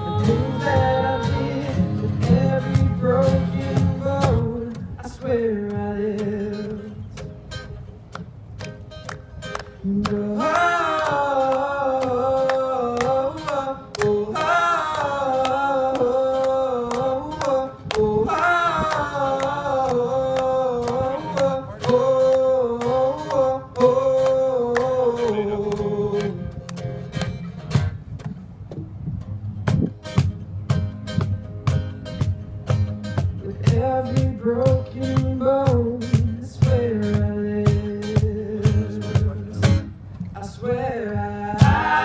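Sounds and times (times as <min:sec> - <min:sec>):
acoustic guitar strumming: 0:00.0 - 0:40.2, 0:41.2 - 0:42.0.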